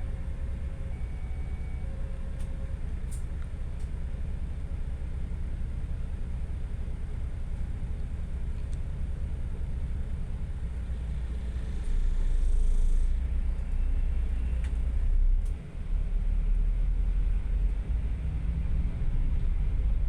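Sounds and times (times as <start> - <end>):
low rumble of road traffic: 0.0 - 20.0.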